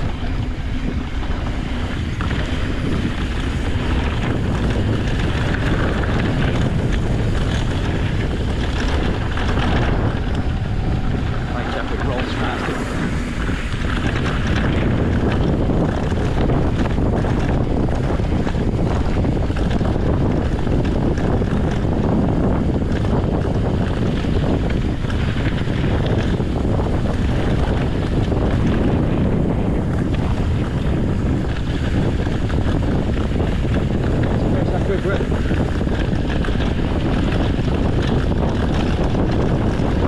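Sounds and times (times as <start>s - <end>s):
bike rattles and knocks: 0.0s - 40.0s
low rumble of tyres: 0.0s - 40.0s
wind rushing over microphone: 0.0s - 40.0s.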